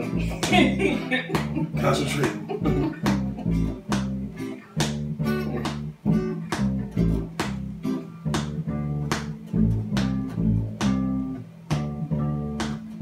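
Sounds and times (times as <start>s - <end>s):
acoustic guitar strumming: 0.0s - 13.0s
bass guitar low notes: 0.0s - 13.0s.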